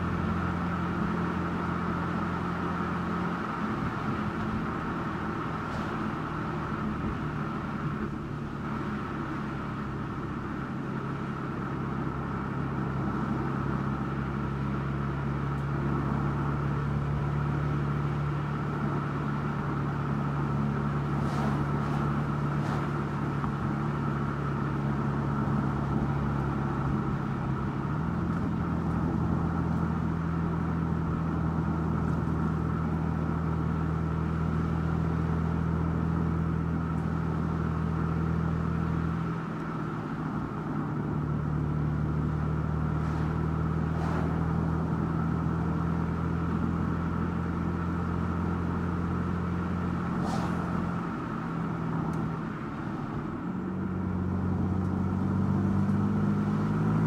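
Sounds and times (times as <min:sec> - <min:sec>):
car engine running: 0:00.0 - 0:57.0
road and tyre noise: 0:00.0 - 0:57.0.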